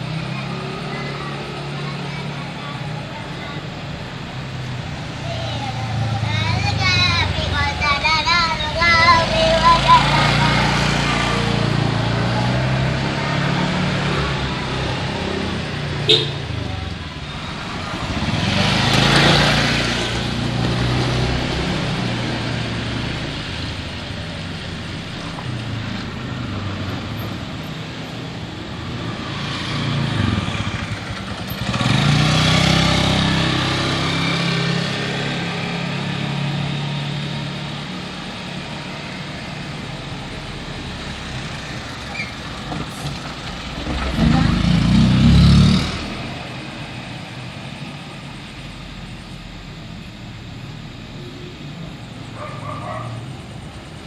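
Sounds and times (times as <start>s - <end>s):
motorcycles and cars passing: 0.0s - 54.0s.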